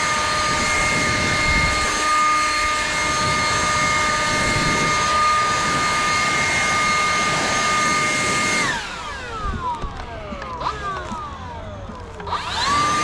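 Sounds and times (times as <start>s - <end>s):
power tool motor whining: 0.0s - 13.0s.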